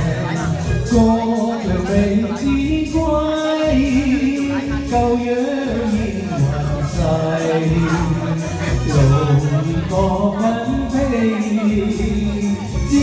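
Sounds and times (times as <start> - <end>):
karaoke backing track: 0.0 - 13.0
man singing into a microphone: 0.0 - 13.0.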